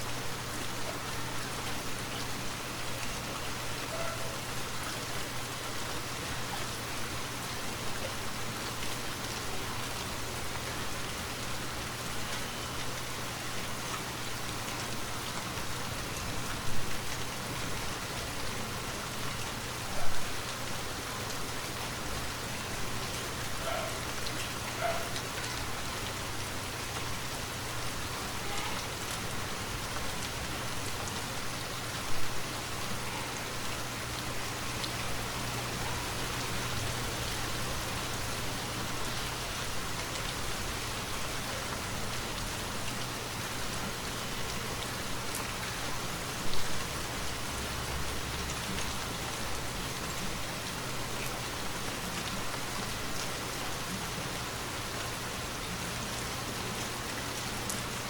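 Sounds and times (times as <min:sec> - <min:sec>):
rain falling on a forest: 0:00.0 - 0:58.0.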